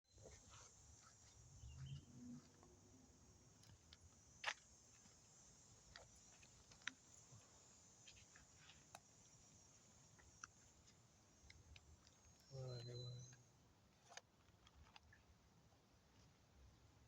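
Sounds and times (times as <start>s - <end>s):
faint steady hiss: 0.1s - 17.0s.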